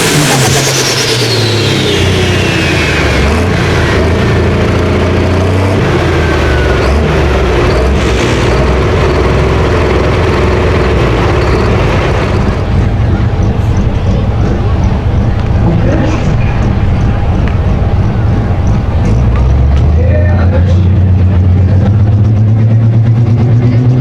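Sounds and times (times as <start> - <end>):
heavy engine running loud: 0.0 - 24.0.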